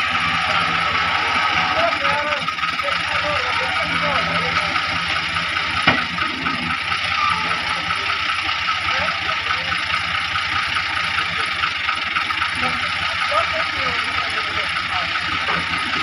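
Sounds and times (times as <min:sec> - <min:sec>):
tractor diesel engine clattering: 0:00.0 - 0:16.0.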